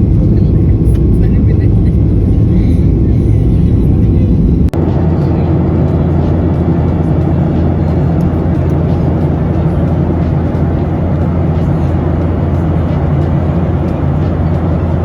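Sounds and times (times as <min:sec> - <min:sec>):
vehicle interior rumble: 0:00.0 - 0:15.0.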